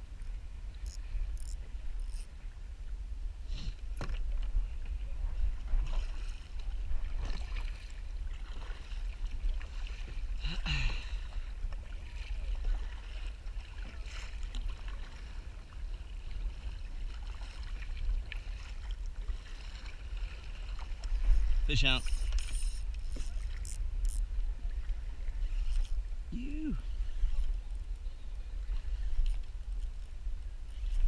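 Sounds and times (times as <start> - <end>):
paddle blade splashing water: 3.4 - 31.0
water washing along hull: 3.8 - 31.0.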